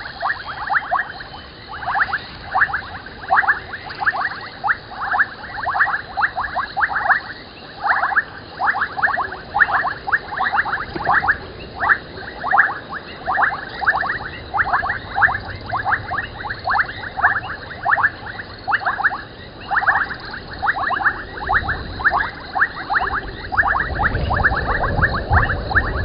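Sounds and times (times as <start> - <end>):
frogs clicking chorus: 0.0 - 26.0.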